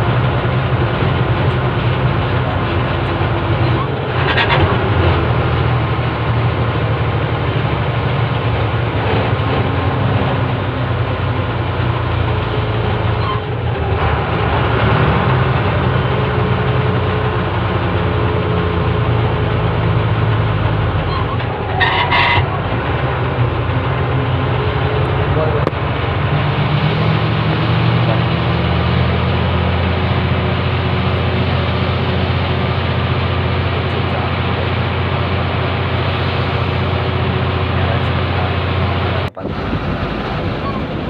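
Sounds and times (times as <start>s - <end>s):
lorry engine and road drone: 0.0s - 41.0s.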